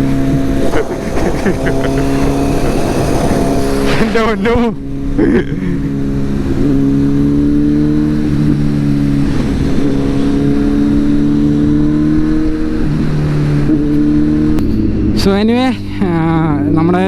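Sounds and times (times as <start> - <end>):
motorcycle engine running steadily: 0.0 - 17.0.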